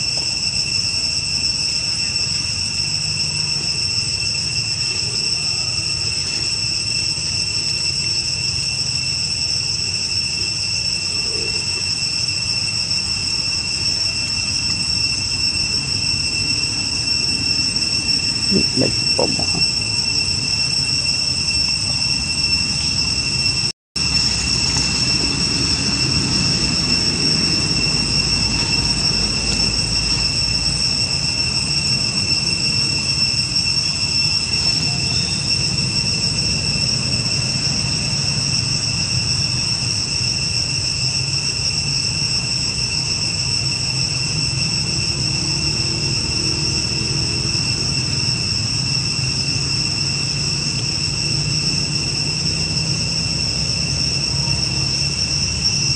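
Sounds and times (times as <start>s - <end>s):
insect chorus droning: 0.0s - 55.9s.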